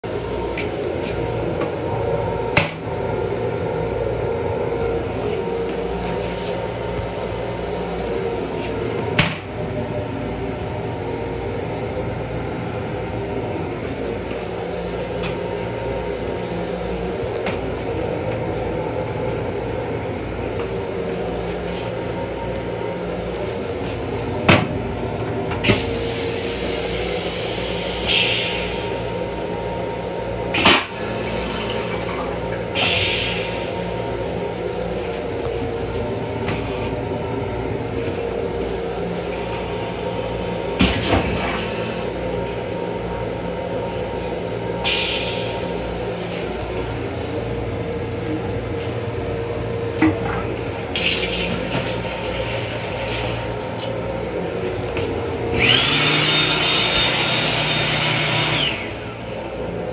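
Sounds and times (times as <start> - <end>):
railcar hum and rumble: 0.0 - 59.9.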